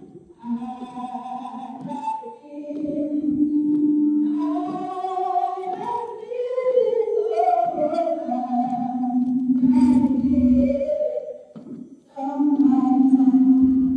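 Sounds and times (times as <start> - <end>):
women singing a cappella: 0.0 - 13.9.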